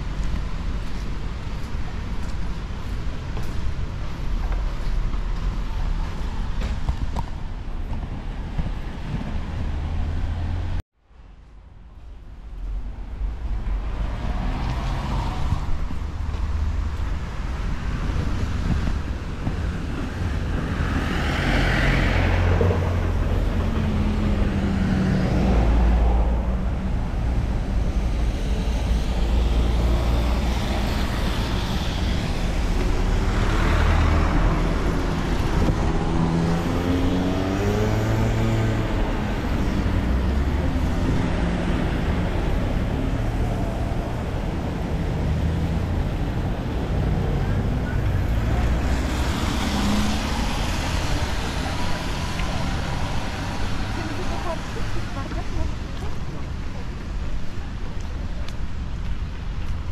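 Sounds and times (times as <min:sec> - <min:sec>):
vehicles driving past: 0:00.0 - 0:10.8, 0:12.3 - 0:59.9.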